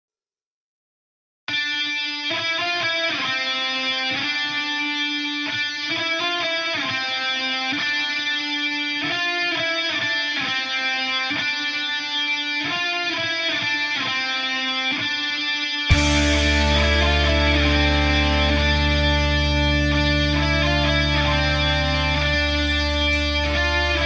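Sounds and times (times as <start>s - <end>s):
lone guitar playing metal riff: 1.5s - 24.0s.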